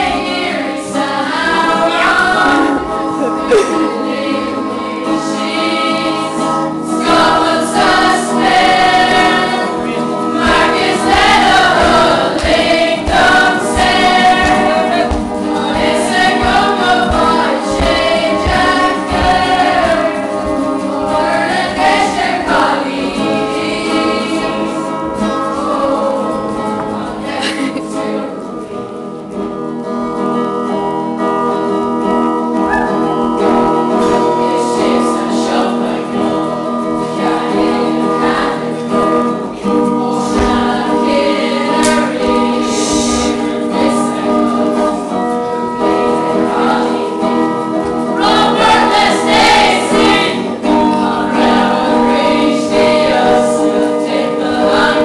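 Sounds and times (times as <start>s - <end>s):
choir singing: 0.0s - 29.0s, 32.7s - 55.0s.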